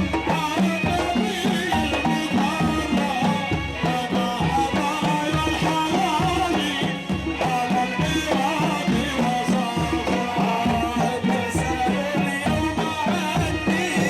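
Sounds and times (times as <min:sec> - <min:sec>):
hand drums beating: 0:00.0 - 0:14.0.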